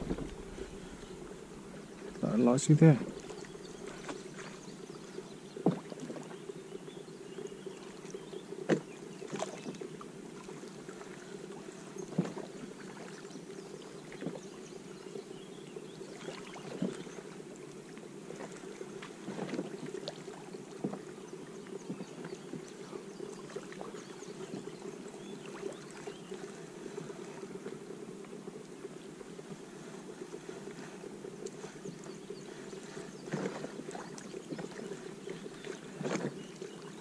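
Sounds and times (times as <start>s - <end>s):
low water wash: 0.0s - 37.0s.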